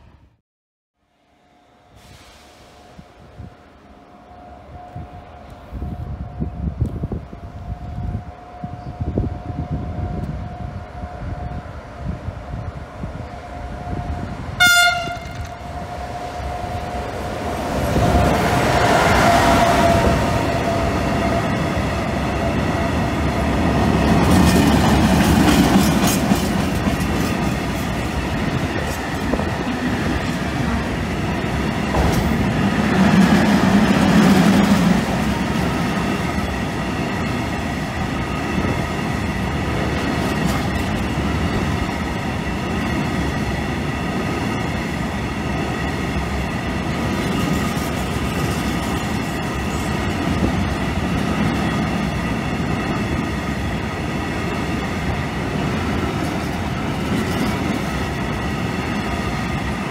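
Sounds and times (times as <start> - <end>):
freight train rolling past: 1.2 - 59.9.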